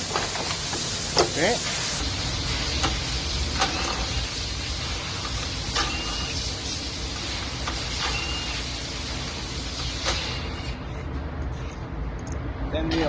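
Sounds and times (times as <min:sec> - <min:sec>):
loud hissing noise: 0:00.0 - 0:10.9.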